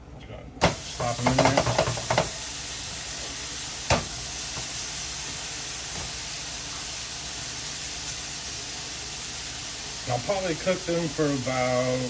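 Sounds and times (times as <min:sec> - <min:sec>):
steaks sizzling in a pan: 0:00.7 - 0:12.0.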